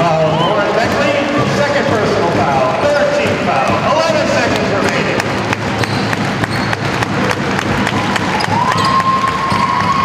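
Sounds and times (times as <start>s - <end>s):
noisy crowd in a large hall: 0.0s - 10.0s.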